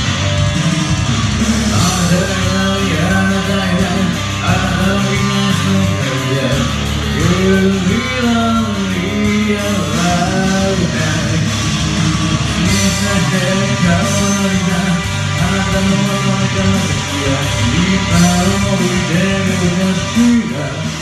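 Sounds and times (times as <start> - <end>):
heavy rock backing track: 0.0 - 21.0
man singing into microphone: 1.6 - 21.0.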